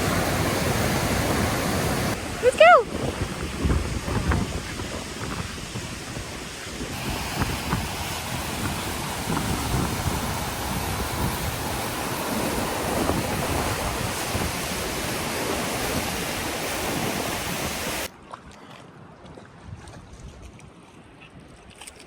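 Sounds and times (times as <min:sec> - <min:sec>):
wind buffeting microphone: 0:00.0 - 0:18.1.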